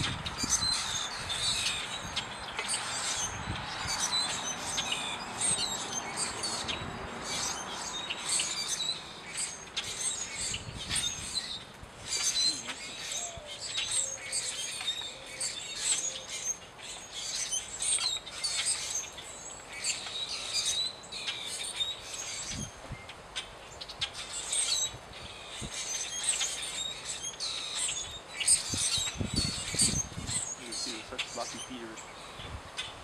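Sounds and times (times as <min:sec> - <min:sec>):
birds chirping and calling: 0:00.0 - 0:33.0.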